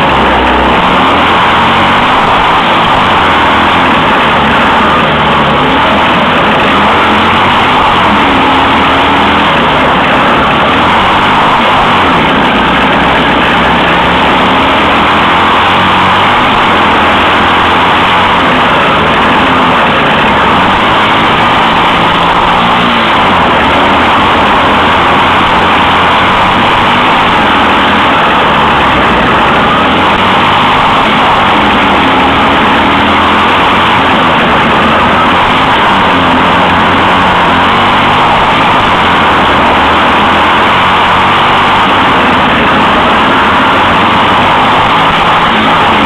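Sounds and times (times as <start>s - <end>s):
kart engine running hard: 0.0s - 46.0s
rough track noise: 0.0s - 46.0s.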